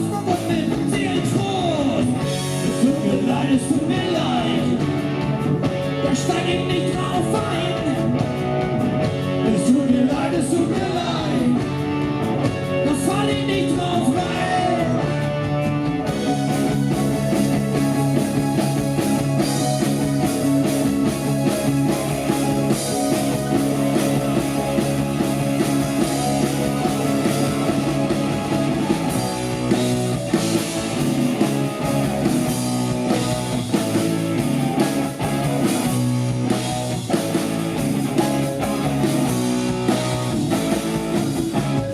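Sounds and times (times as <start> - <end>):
drum kit beat: 0.0 - 41.9
electric guitar playing: 0.0 - 41.9.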